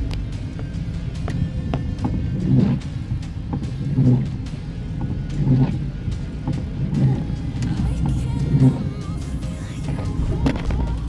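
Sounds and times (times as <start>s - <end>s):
car engine and tyre noise: 0.0s - 11.0s
windscreen wipers sweeping: 0.0s - 11.0s.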